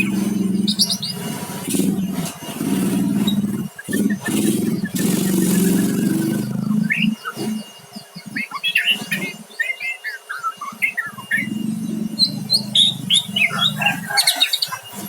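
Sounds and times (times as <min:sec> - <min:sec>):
songbird calling: 0:00.0 - 0:15.0.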